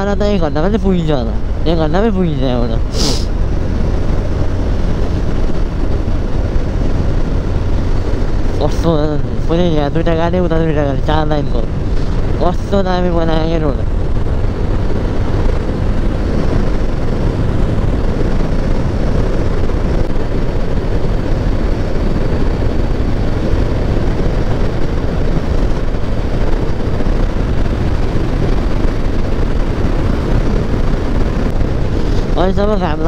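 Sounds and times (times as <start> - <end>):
motorcycle road noise: 0.0 - 33.0
wind rushing: 0.0 - 33.0.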